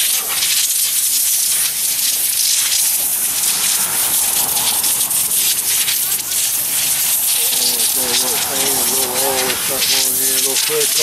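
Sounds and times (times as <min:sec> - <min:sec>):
propane torch hissing: 0:00.0 - 0:11.0.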